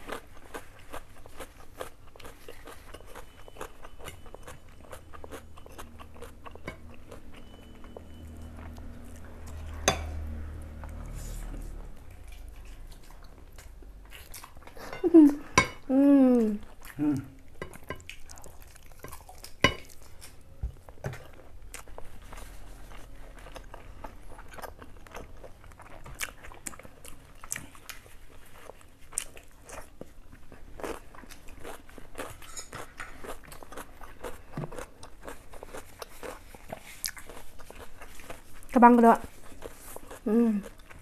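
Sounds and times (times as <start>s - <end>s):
people chewing food: 0.0s - 41.0s.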